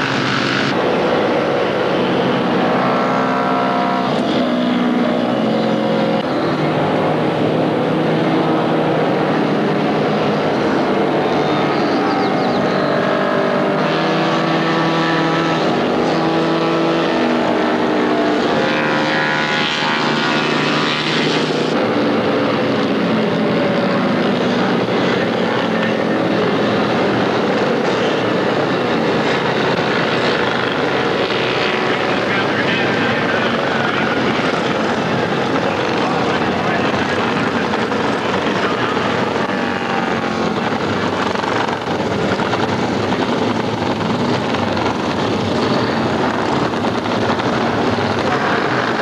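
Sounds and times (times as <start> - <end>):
racing motorcycle engines: 0.0 - 49.0.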